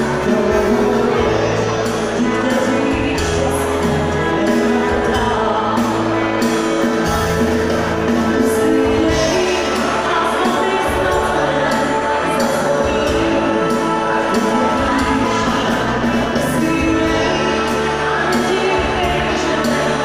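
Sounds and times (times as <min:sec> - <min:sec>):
held bass notes: 0:00.0 - 0:20.0
live band amplified music: 0:00.0 - 0:20.0.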